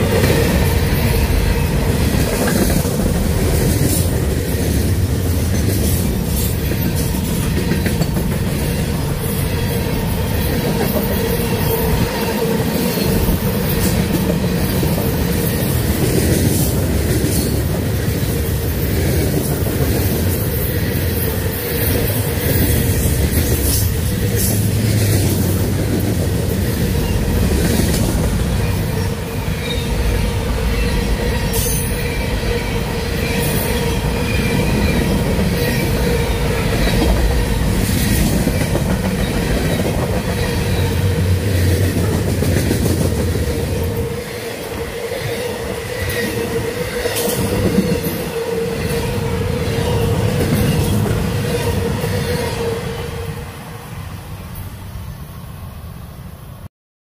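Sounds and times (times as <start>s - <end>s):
sharp train clanks: 0.0s - 55.2s
freight train wheels rumbling: 0.0s - 56.6s.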